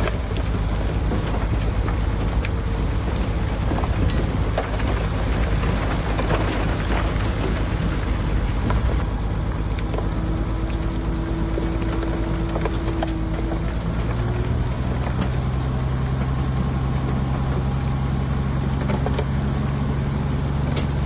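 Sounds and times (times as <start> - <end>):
bulldozer diesel engine running: 0.0 - 21.0
rough crackle: 0.0 - 21.0.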